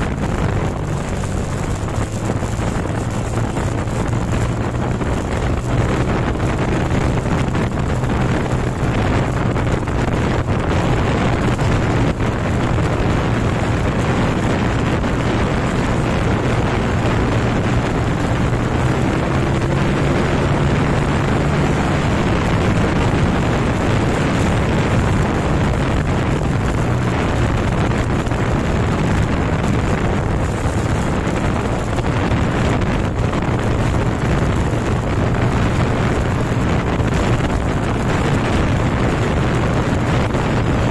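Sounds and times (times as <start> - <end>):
motorcycle engine cruising: 0.0 - 40.9
wind rush on microphone: 0.0 - 40.9.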